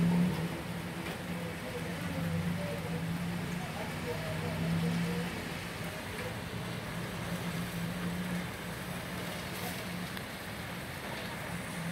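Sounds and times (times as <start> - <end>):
rain and running water: 0.0 - 11.9.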